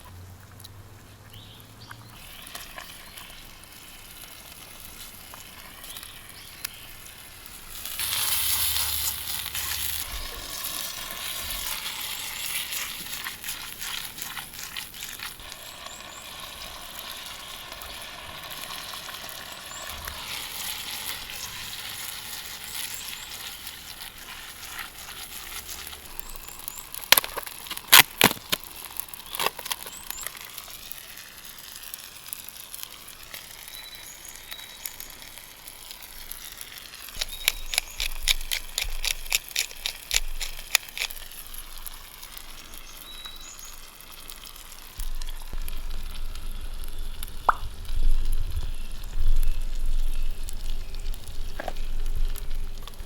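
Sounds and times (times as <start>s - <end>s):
campfire crackles and clicks: 0.0s - 53.0s
food sizzling in a pan: 2.0s - 53.0s.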